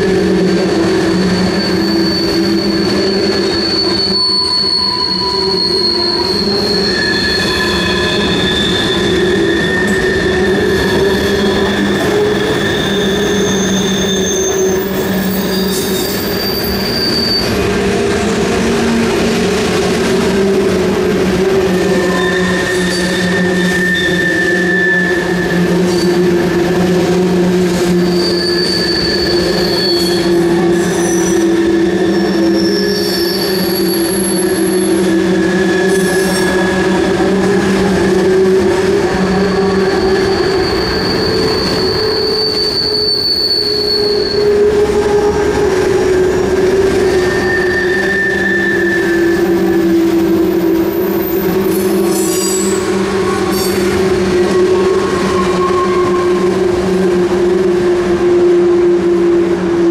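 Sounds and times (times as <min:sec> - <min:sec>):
train wheels squealing: 0:00.0 - 0:18.4, 0:19.1 - 0:57.4
freight train rumbling on rails: 0:00.0 - 0:59.9.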